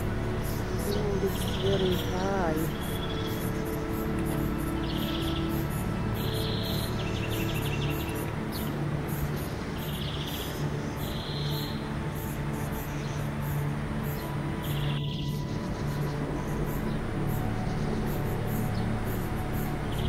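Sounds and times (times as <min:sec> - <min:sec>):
insect buzzy calls: 0:00.0 - 0:20.0
steady background hiss: 0:00.0 - 0:20.0.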